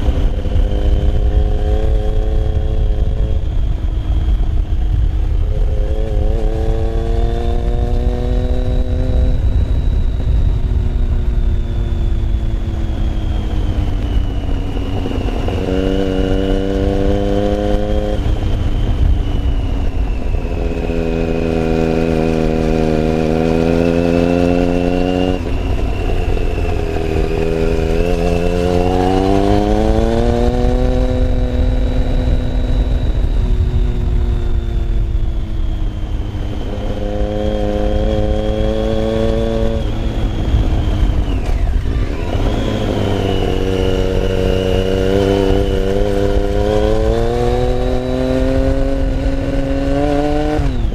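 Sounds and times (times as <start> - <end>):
motorcycle engine revving: 0.0 - 50.9
wind noise on microphone: 0.0 - 50.9.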